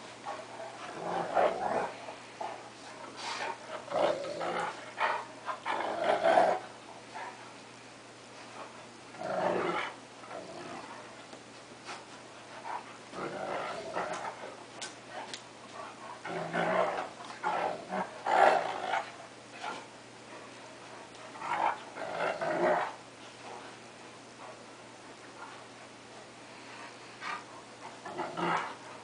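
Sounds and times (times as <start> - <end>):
dogs growling in play: 0.0 - 7.7, 8.3 - 29.0.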